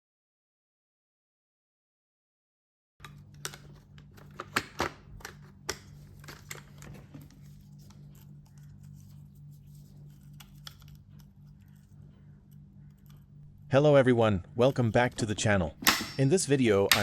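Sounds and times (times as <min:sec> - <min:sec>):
low electrical hum: 0:03.0 - 0:17.0.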